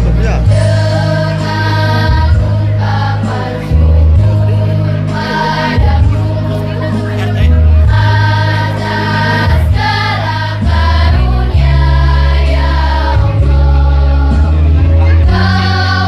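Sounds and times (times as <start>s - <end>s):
bass accompaniment: 0.0s - 16.0s
choir singing: 0.3s - 16.0s.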